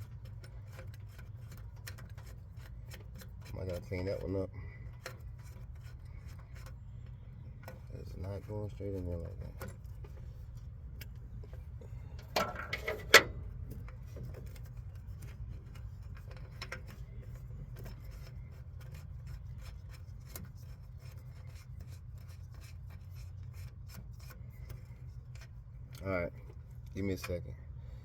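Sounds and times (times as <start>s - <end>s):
hand scraping on metal: 0.0s - 27.4s.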